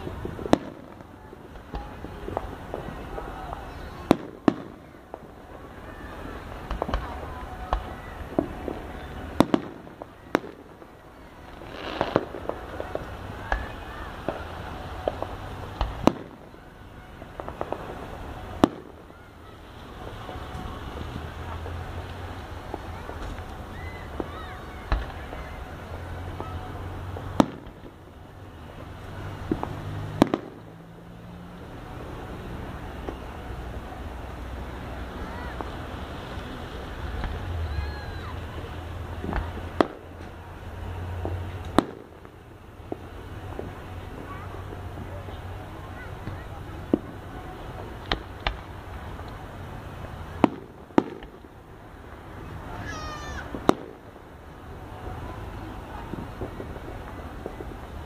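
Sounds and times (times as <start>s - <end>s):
fireworks bangs: 0.0s - 58.0s
fireworks hiss: 0.0s - 58.0s.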